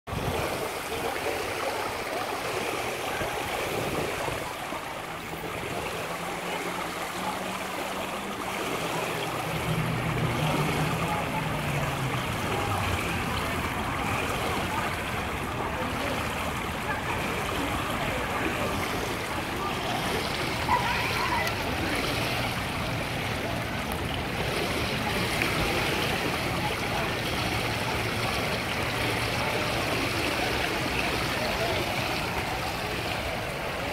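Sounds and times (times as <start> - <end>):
pool water lapping and running: 0.1 - 33.9.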